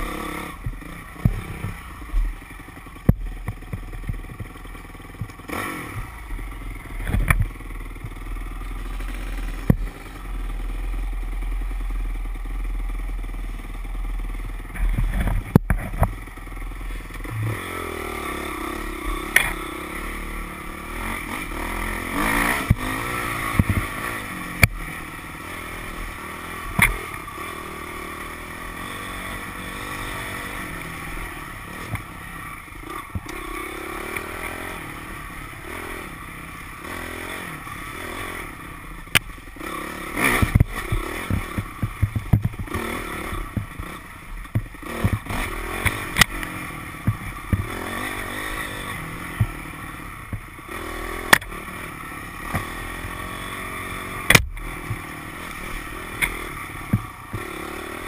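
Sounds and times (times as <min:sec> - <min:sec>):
bike knocking and rattling over bumps: 0:00.0 - 0:58.0
dirt bike engine revving: 0:00.0 - 0:58.0.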